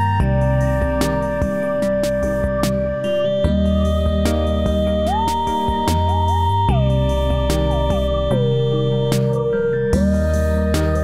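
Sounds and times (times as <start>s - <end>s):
bass notes: 0.0s - 11.0s
synthesizer melody: 0.0s - 11.0s.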